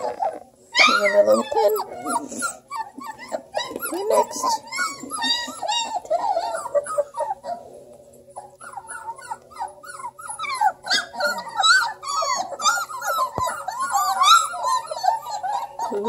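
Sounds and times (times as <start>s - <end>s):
puppies whimpering and squeaking: 0.0s - 16.0s.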